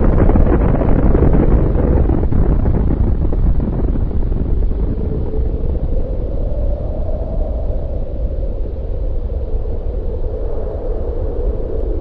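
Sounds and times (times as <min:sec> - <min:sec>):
deep steady rumble: 0:00.0 - 0:12.0.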